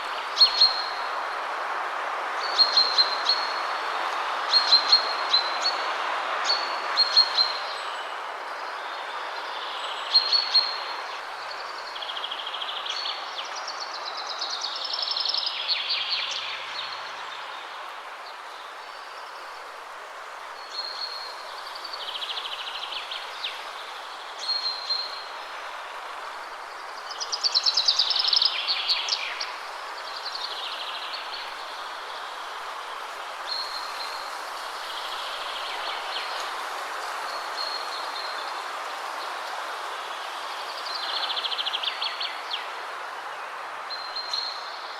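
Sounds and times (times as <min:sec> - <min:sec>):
wind rushing through trees: 0:00.0 - 0:44.9.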